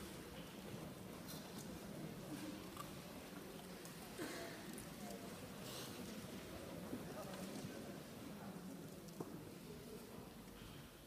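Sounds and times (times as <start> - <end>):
murmur of distant voices: 0.0 - 11.0.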